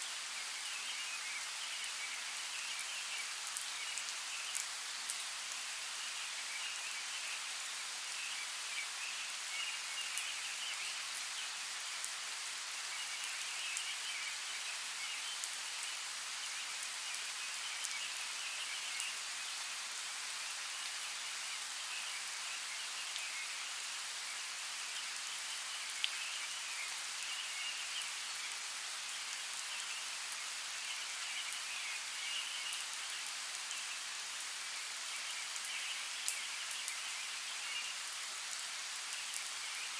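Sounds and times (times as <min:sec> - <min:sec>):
rain drips: 0:00.0 - 0:39.9
steady rain hiss: 0:00.0 - 0:39.9.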